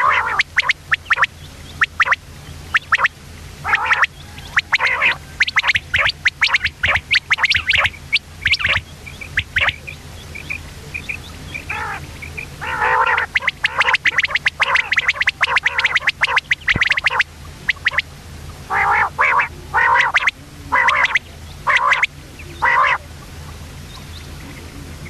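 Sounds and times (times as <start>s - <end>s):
quail chirping: 0.0s - 18.1s, 18.7s - 23.1s
low steady hum: 0.0s - 25.0s.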